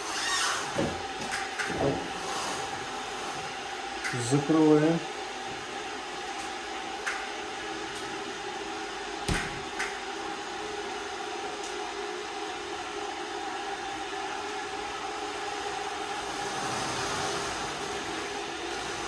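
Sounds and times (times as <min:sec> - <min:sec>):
kettle humming and hissing: 0:00.0 - 0:19.0.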